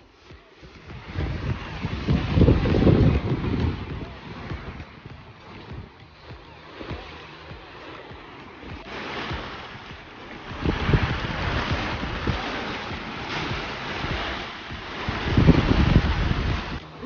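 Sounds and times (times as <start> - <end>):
rushing water: 0.0 - 17.0
wind thumping on microphone: 0.0 - 17.0.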